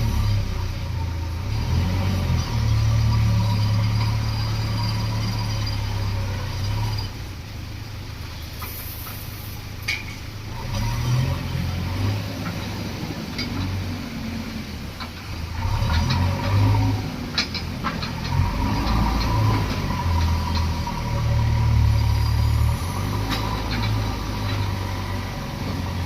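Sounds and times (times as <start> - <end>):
diesel engine revving: 0.0 - 26.0.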